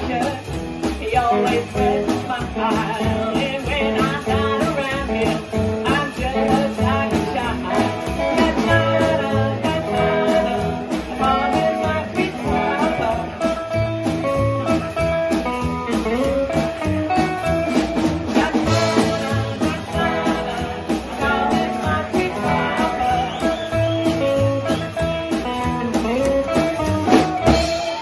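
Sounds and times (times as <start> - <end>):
woman singing: 0.0 - 14.9, 16.0 - 28.0
rockabilly band playing: 0.0 - 28.0.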